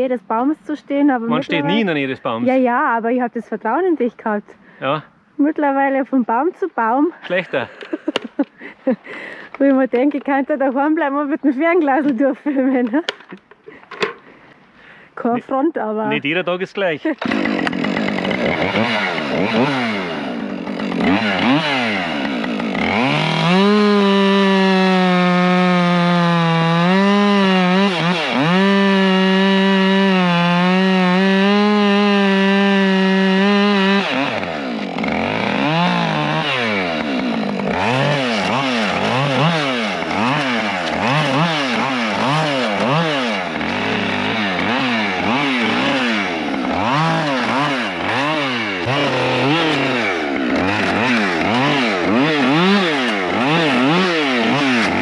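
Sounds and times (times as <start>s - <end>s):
chainsaw revving and cutting: 1.0s - 2.9s, 7.2s - 13.3s, 16.0s - 55.0s.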